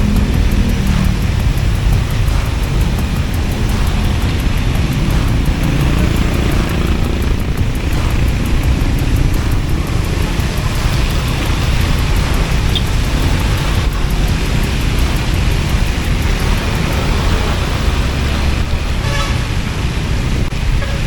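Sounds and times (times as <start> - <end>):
scooter road noise: 0.0 - 21.0
wind buffeting: 0.0 - 21.0.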